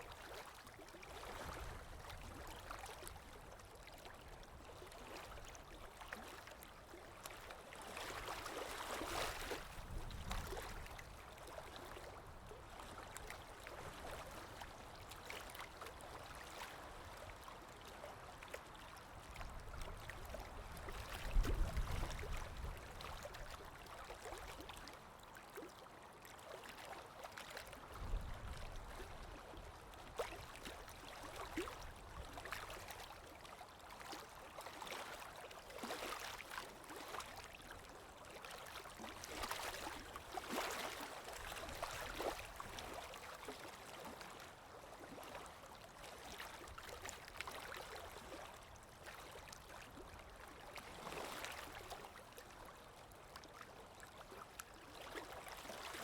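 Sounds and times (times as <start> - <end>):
water lapping: 0.0 - 56.0.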